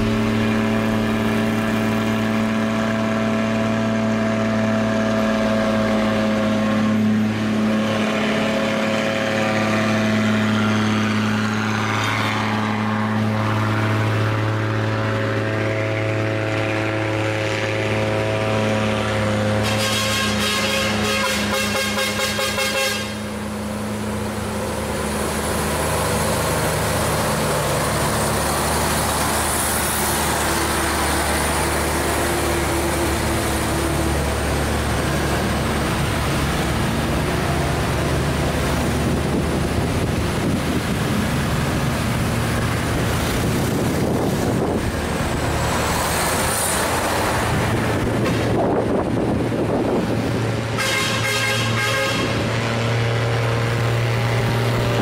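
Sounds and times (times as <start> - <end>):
diesel truck engines rumbling: 0.0 - 55.0
road noise: 0.0 - 55.0.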